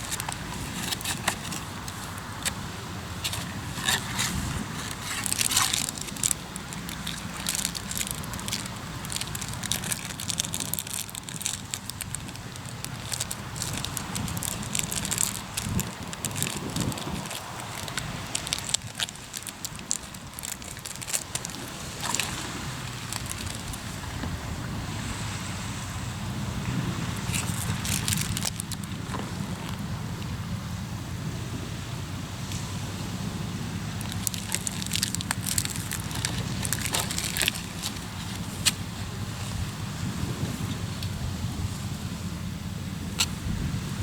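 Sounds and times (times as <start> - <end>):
campfire crackling: 0.0 - 24.1, 26.0 - 31.2, 32.0 - 43.4
low steady rumble: 0.0 - 44.0.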